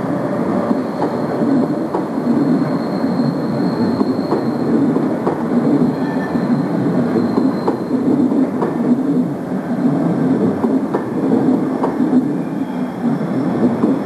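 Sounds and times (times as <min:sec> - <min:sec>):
train wheels rumbling on track: 0:00.0 - 0:14.0
wheels clacking over rail joints: 0:00.6 - 0:03.0, 0:03.8 - 0:14.0.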